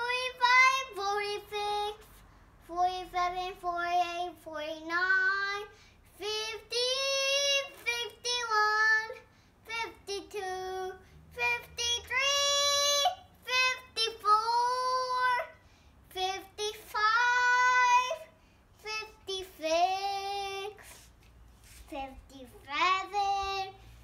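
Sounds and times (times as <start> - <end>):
girl singing: 0.0 - 24.0.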